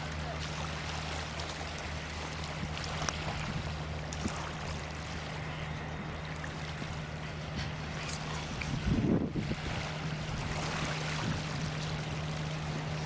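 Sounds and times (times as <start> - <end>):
ship engine drone: 0.0 - 13.0.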